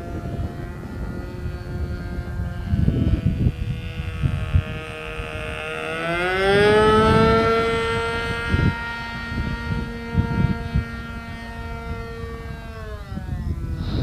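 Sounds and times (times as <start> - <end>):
model airplane engine buzzing: 0.0 - 14.0
wind buffeting microphone: 0.0 - 14.0.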